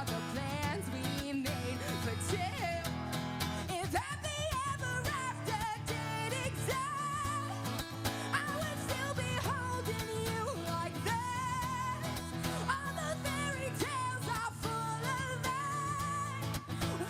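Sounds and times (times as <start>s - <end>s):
live pop band: 0.0s - 17.0s
woman singing: 0.0s - 17.0s.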